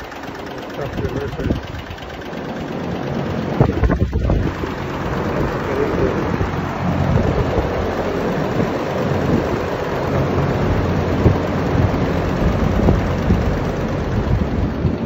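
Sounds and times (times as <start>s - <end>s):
large exhaust fans rushing: 0.0s - 15.0s.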